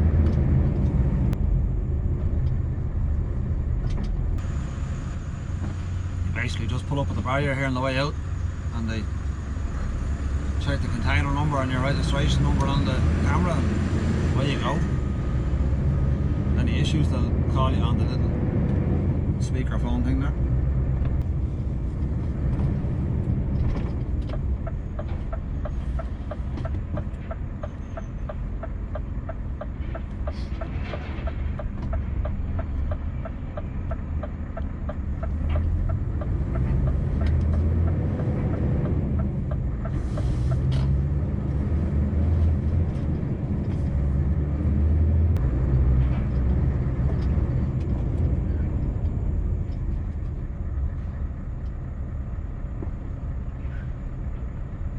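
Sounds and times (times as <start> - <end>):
truck engine drone: 0.0 - 54.9.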